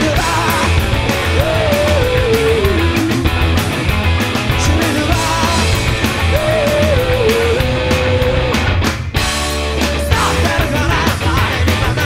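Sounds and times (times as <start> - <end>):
person singing: 0.0 - 3.4, 4.6 - 8.7, 9.7 - 12.0
punk rock band playing: 0.0 - 12.0.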